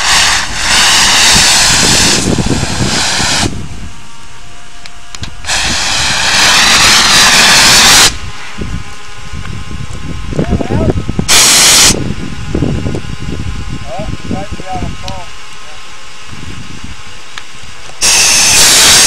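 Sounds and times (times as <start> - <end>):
foam nozzle hissing blasts: 0.0 - 4.4, 5.1 - 9.8, 11.1 - 13.8, 15.4 - 19.0.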